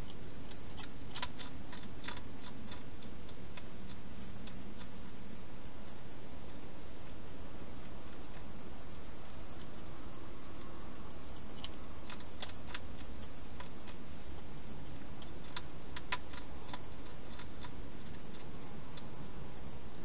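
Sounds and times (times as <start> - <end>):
hedgehog crunching food: 0.0 - 19.6.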